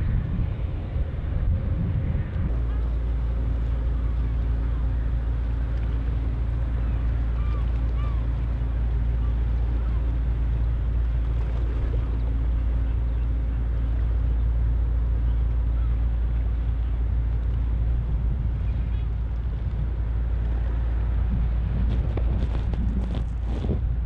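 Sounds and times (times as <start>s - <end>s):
higher hum: 0.0s - 24.0s
ship engine rumble: 0.0s - 24.0s.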